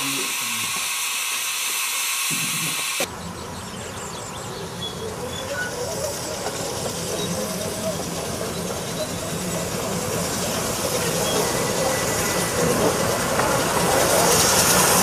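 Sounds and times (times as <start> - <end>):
steam hissing: 0.0 - 3.1, 5.7 - 15.0
steam locomotive running: 0.0 - 15.0.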